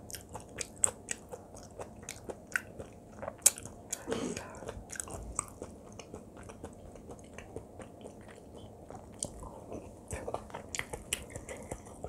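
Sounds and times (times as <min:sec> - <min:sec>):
chewing and mouth clicks: 0:00.0 - 0:12.0.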